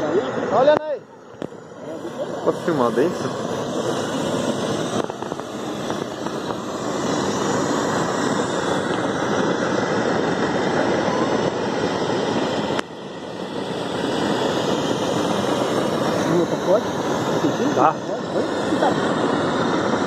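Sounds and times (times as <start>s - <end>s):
gas burner flame rushing: 0.0s - 20.0s.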